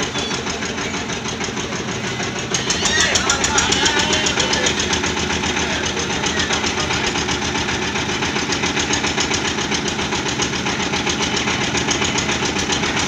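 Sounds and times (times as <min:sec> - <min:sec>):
drilling rig engine running: 0:00.0 - 0:13.0.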